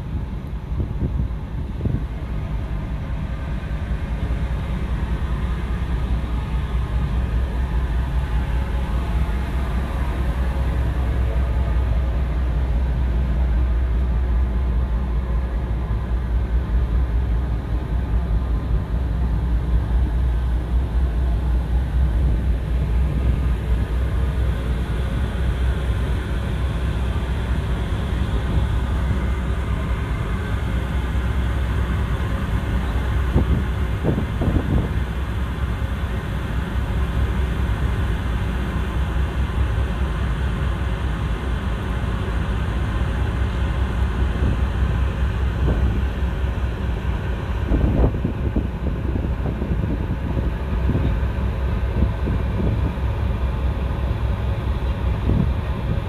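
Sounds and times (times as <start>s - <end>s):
churning propeller wash: 0.0s - 56.0s
ship engines rumbling: 0.0s - 56.0s.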